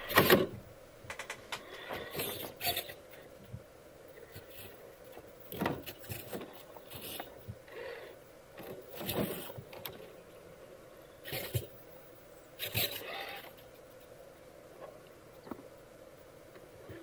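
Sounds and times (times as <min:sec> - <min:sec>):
faint electric whine: 0:00.0 - 0:17.0.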